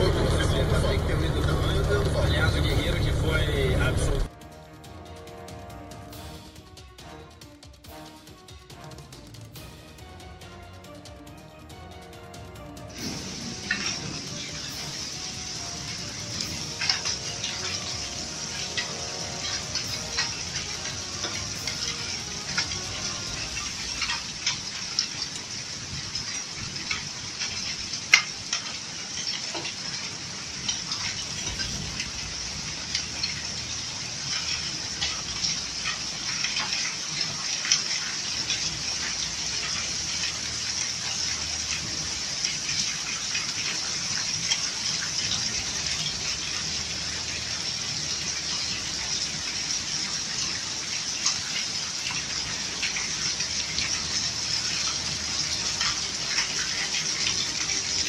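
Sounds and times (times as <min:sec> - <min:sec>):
hailstones ticking: 0:00.0 - 0:58.0
heavy rain pouring: 0:00.0 - 0:58.0.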